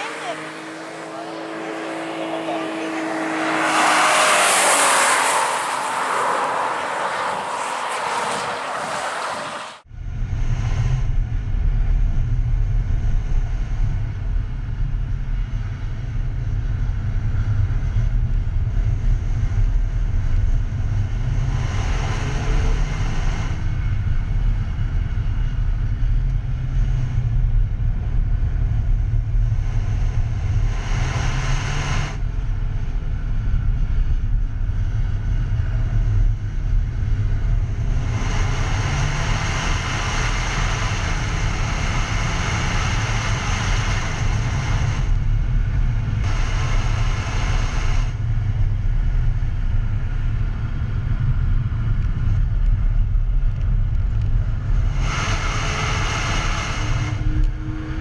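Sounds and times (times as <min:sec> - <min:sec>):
race cars engine rumble: 0:00.0 - 0:58.0.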